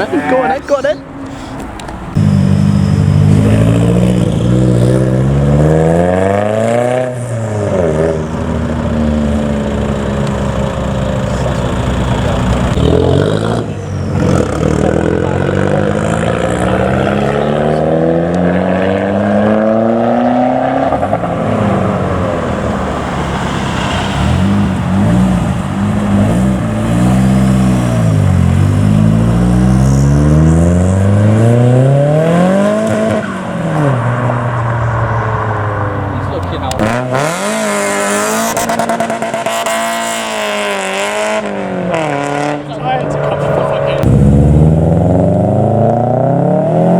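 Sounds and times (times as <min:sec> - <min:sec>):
car engine revving hard: 0:02.2 - 0:46.9.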